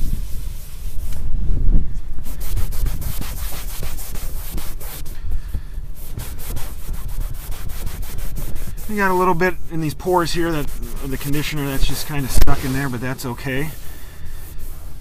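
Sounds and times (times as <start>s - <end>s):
towel rubbing leather: 0.0s - 1.2s, 2.2s - 5.2s, 5.9s - 15.0s.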